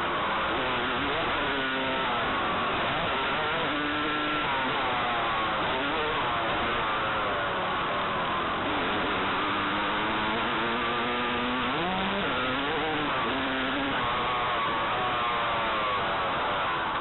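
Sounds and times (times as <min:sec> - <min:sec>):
motocross bike engine running hard: 0:00.0 - 0:17.0.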